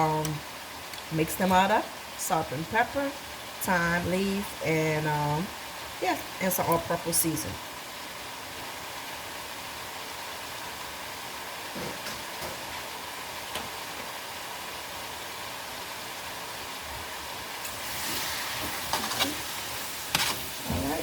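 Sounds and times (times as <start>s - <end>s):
vegetables sizzling in a frying pan: 0.0s - 21.0s.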